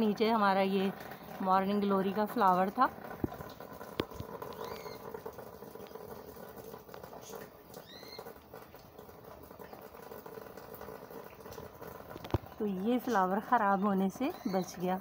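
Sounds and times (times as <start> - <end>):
light rain on foliage: 0.6 - 15.0.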